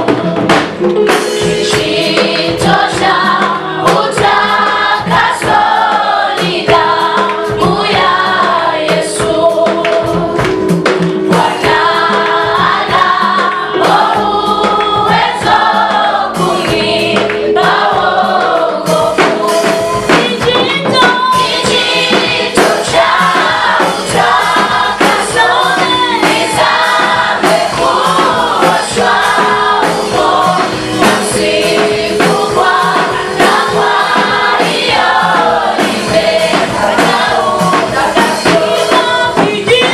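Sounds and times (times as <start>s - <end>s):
gospel choir singing in harmony: 0.0s - 39.9s.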